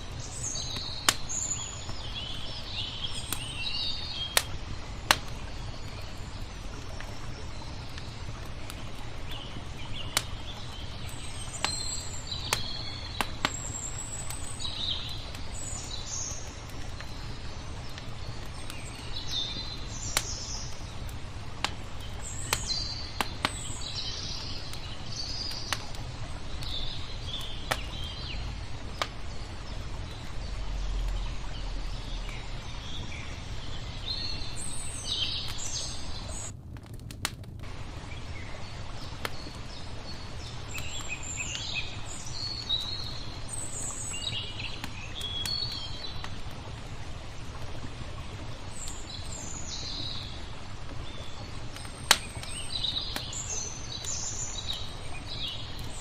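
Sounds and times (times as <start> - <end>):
songbirds chirping: 0.0 - 36.9, 37.6 - 56.0
campfire crackling and popping: 0.0 - 56.0.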